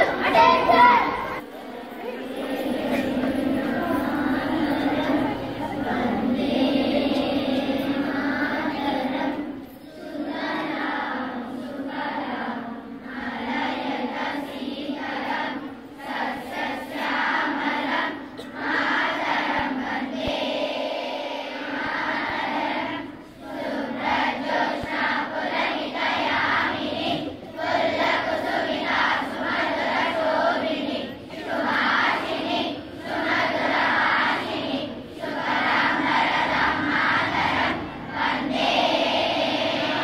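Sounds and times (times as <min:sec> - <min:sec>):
children singing in unison: 0:00.0 - 0:40.0.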